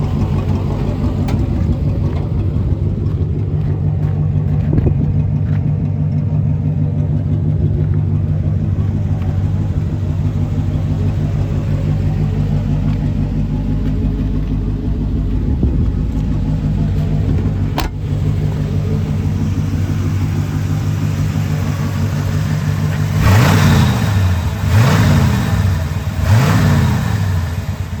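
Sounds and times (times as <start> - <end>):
pickup engine idling and revving: 0.0 - 28.0.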